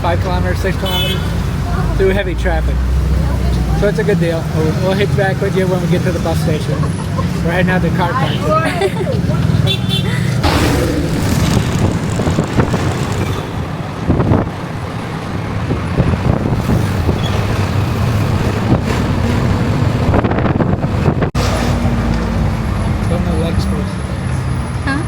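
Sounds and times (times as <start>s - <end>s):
traffic noise: 0.0s - 25.0s
vehicle engine rumble: 0.0s - 25.0s.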